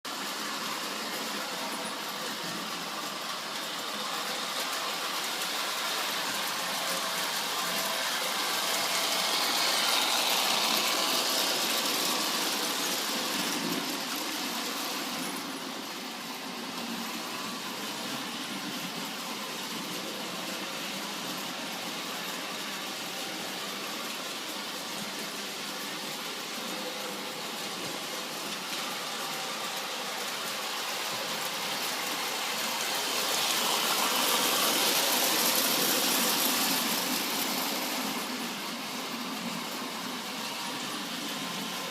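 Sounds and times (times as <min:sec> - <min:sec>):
toy train whirring rattle: 0:00.1 - 0:41.9.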